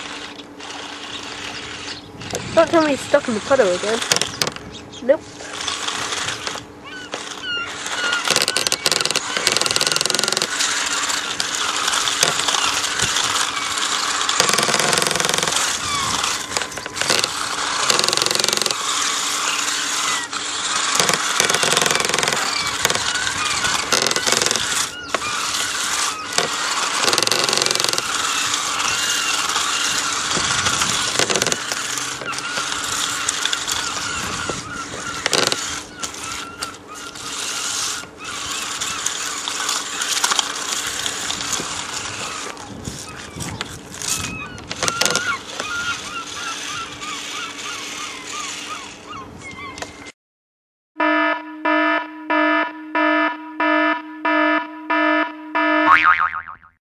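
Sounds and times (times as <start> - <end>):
continuous rough noise: 0.0 - 50.2
small electric motors whining: 0.0 - 50.2.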